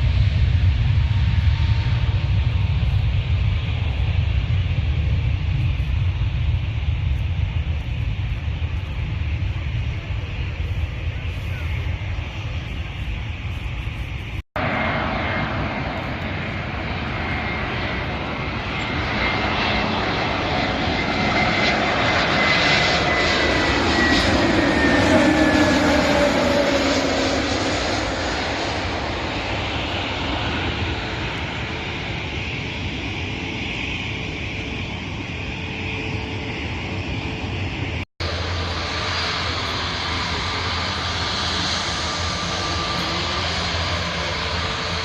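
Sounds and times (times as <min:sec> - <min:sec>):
jet airliner passing: 0:00.0 - 0:45.0.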